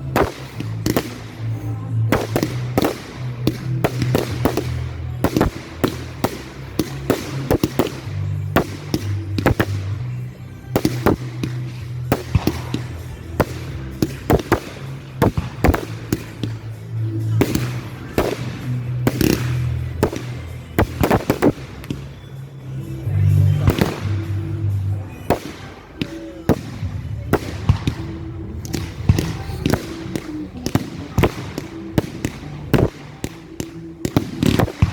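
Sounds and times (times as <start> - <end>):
fireworks bangs and cracks: 0.0 - 34.9
music with steady bass: 0.0 - 34.9.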